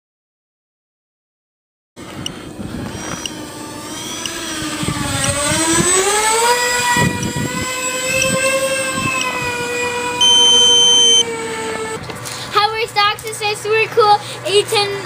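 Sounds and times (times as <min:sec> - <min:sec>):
electric ducted fans whining: 0:02.0 - 0:15.0.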